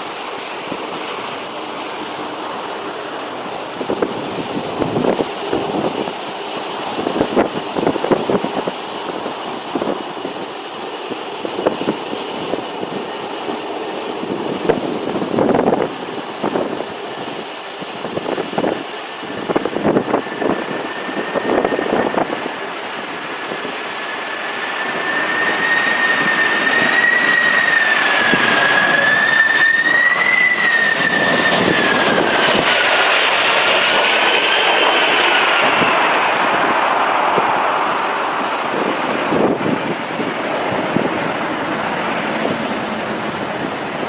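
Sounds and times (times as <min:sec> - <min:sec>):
jet engines whining: 0:00.0 - 0:44.0
wind buffeting microphone: 0:00.0 - 0:44.0.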